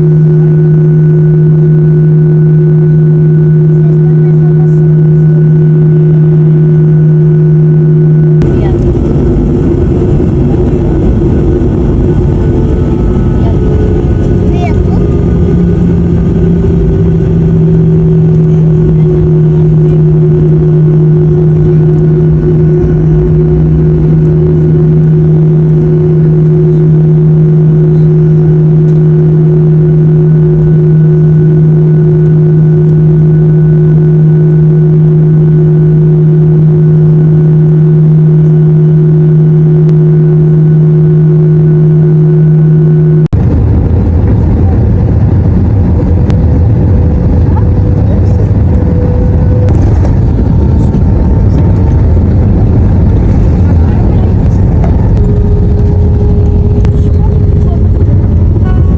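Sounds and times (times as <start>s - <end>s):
airliner engine drone in cabin: 0.0s - 58.9s
rough rumble: 0.0s - 58.9s.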